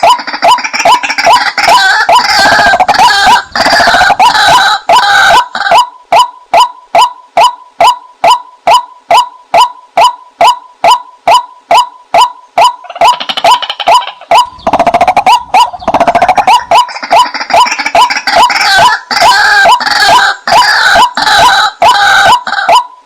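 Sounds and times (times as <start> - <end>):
rapid bird calling chorus: 0.0 - 7.1, 8.2 - 23.0
waterhen calling: 0.0 - 23.0.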